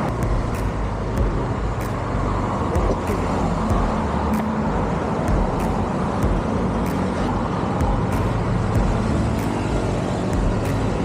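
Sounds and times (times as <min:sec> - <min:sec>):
motorcycle engine running: 0:00.0 - 0:04.5, 0:05.2 - 0:11.0
road noise: 0:00.0 - 0:11.0.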